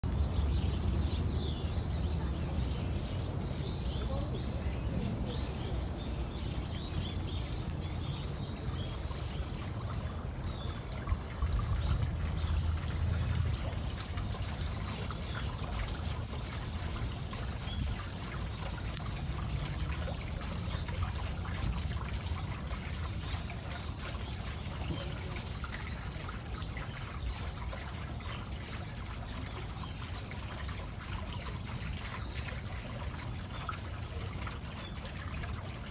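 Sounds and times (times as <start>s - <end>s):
fountain water trickling: 0.0s - 35.9s
birds chirping: 0.2s - 35.9s.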